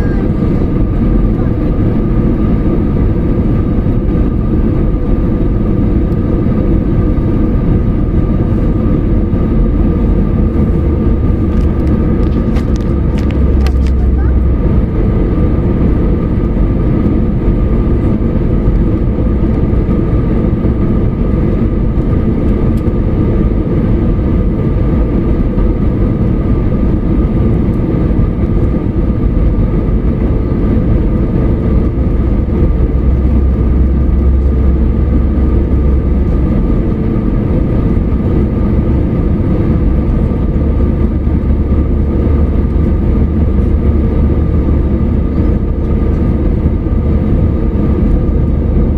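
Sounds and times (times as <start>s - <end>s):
airliner cabin engine rumble: 0.0s - 48.9s
engine whine: 0.0s - 48.9s.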